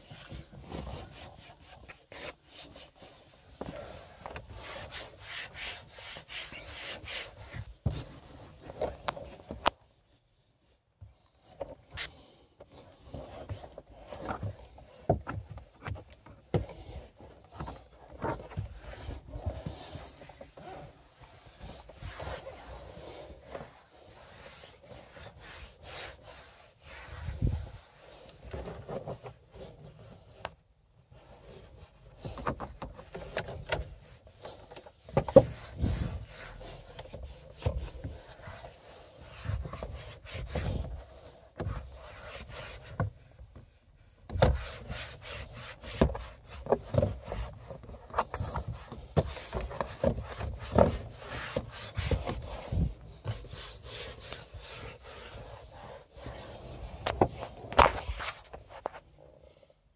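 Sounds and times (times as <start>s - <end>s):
rubbing on plastic: 0.0s - 59.2s.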